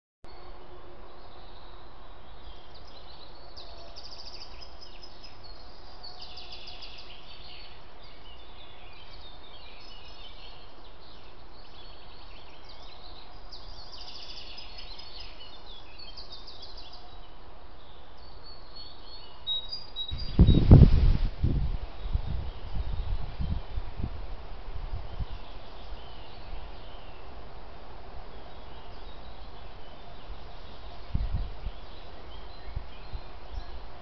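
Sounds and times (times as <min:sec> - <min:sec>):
songbirds trilling: 0:00.3 - 0:20.9, 0:24.9 - 0:34.0
faint microphone hiss: 0:00.3 - 0:34.0.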